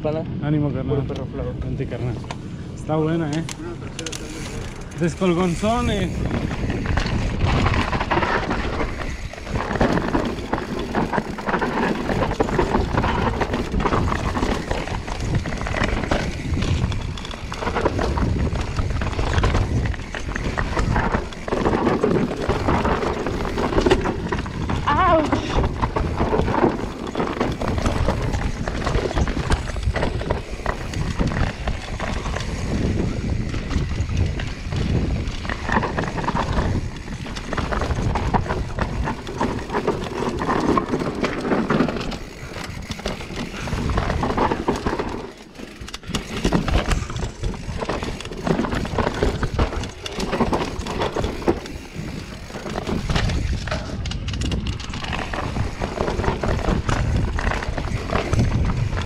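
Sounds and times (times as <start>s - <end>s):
bike knocking and rattling: 0.8s - 59.0s
bike tyres rushing on dirt: 1.5s - 59.0s.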